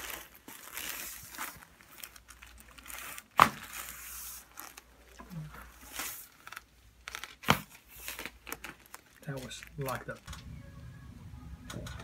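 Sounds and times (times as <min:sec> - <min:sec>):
rustling: 0:00.0 - 0:10.8.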